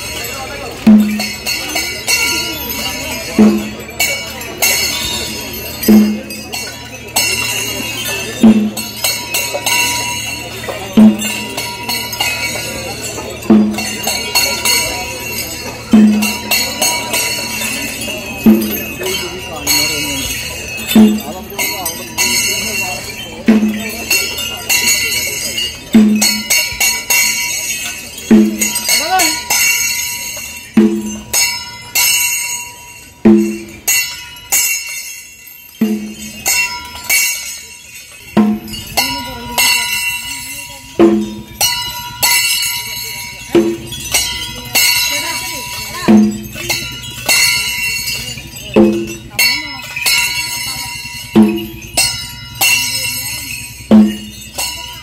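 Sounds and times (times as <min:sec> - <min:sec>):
jingling bells and small cymbals: 0:00.0 - 0:55.0.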